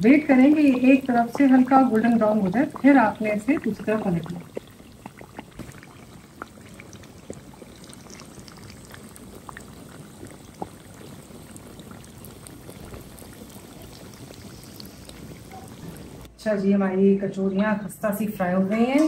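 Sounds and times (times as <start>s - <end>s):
oil bubbling and sizzling: 0.0s - 16.3s
small pops and crackles: 0.0s - 16.3s.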